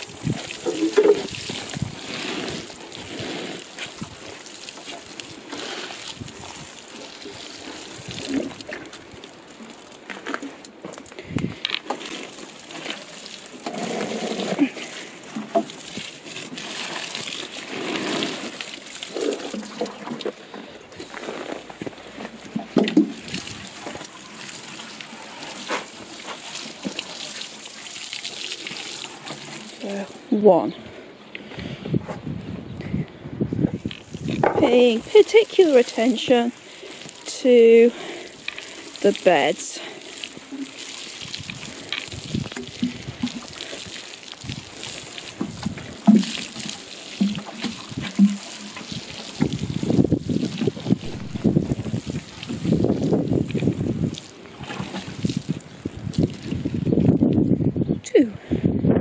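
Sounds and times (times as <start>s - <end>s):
watering can sprinkling water: 0.0s - 30.4s, 33.7s - 57.3s.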